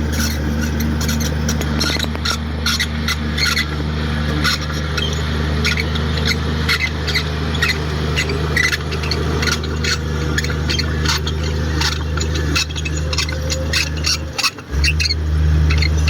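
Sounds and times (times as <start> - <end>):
bulldozer diesel engine running: 0.0 - 16.0
steel tracks squeaking and clanking: 0.0 - 16.0.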